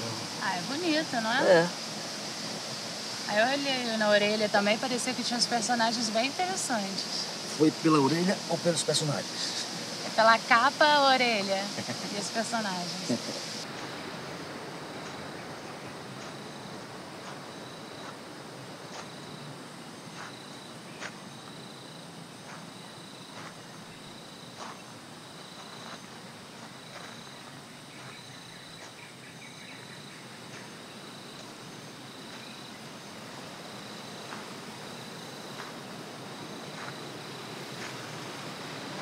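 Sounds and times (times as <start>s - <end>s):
forest ambience hiss: 0.0s - 39.0s
insects chirping in pulses: 0.0s - 39.0s
sharp insect ticks: 0.0s - 39.0s.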